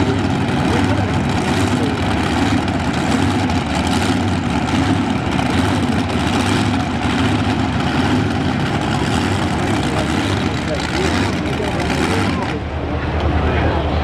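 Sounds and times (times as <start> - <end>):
tractor engines fast idle: 0.0 - 13.5.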